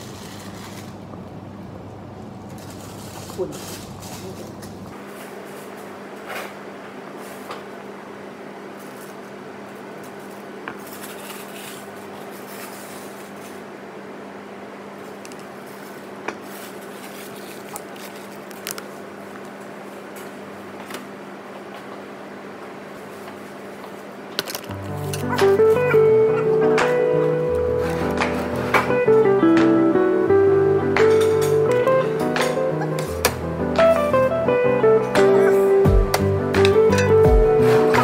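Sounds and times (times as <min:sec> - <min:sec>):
background hum: 0:00.0 - 0:38.0.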